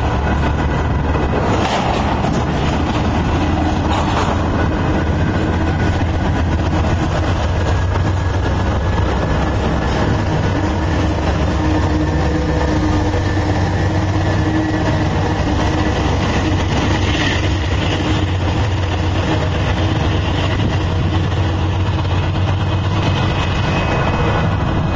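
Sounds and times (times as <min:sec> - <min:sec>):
diesel locomotive engines rumbling: 0:00.0 - 0:24.9
train rolling past: 0:00.0 - 0:24.9.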